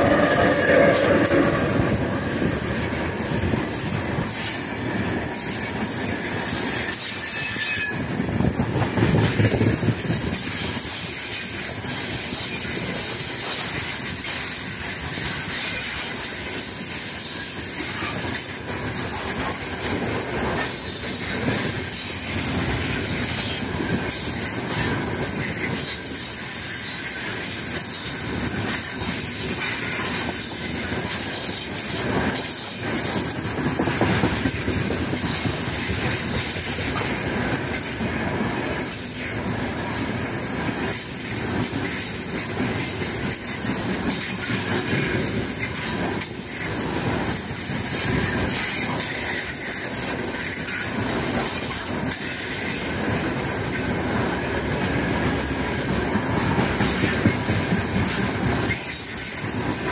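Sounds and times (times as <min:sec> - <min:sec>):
freight wagons rumbling on rails: 0:00.0 - 0:59.9.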